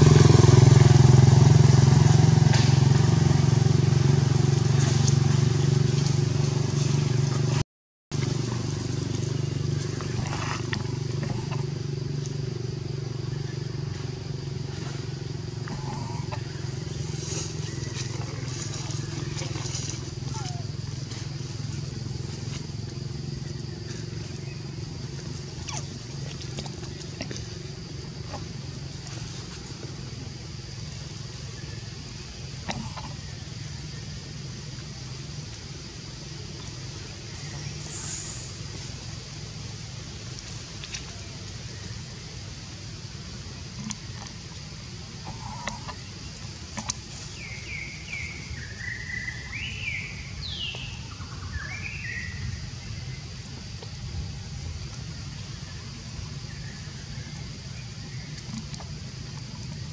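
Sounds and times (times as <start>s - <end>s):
motor engine humming: 0.0s - 59.9s.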